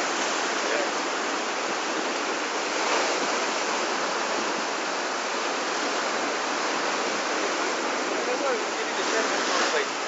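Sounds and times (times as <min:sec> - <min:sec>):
surf breaking over rocks: 0:00.0 - 0:10.0.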